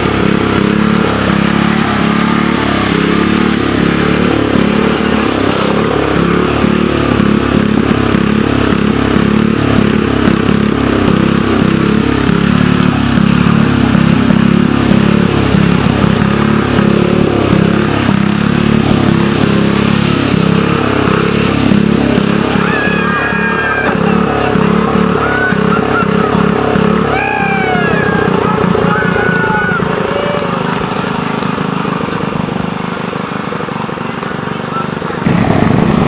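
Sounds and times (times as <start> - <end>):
riding lawn mower engine: 0.0 - 36.0.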